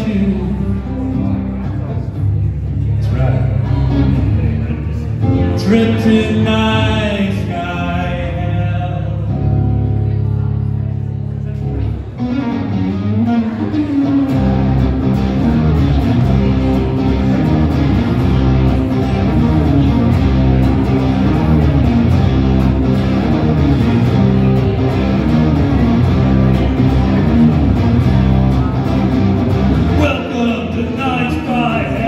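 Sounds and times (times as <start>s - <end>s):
deep bass notes: 0.0s - 32.0s
solo acoustic guitar: 0.0s - 32.0s.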